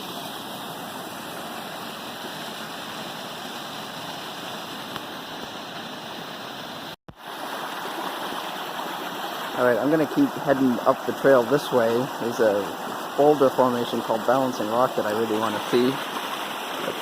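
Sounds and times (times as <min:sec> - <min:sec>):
water rushing over waterfall: 0:00.0 - 0:17.0.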